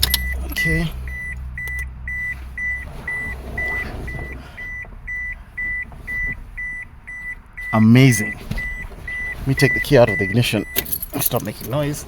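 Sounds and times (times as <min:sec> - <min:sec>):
car warning buzzer beeping: 0:00.0 - 0:12.0.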